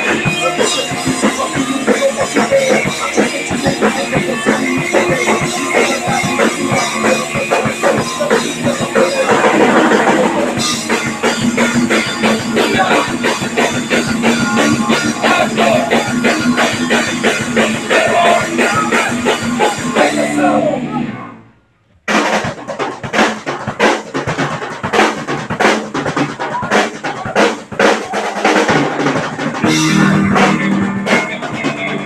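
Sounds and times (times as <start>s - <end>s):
punk rock band playing: 0.0s - 21.5s, 22.1s - 32.0s.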